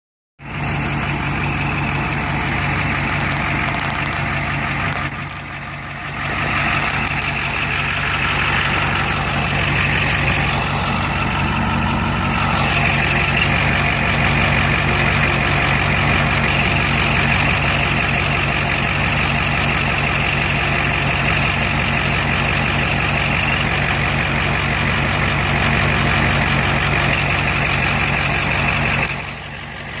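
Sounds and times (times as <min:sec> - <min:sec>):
truck engine idling: 0:00.4 - 0:30.0.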